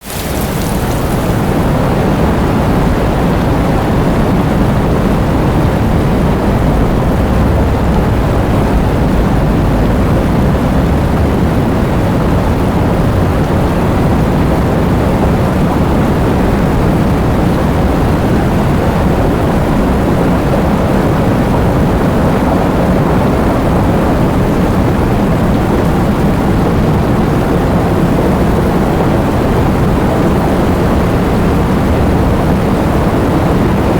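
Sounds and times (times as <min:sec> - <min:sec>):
heavy rain: 0:00.0 - 0:33.9
deep rumble of thunder: 0:00.3 - 0:33.9.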